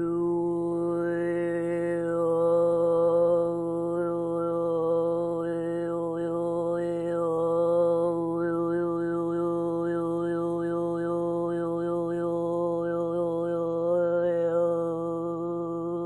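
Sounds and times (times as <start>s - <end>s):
woman chanting long note: 0.0s - 16.0s.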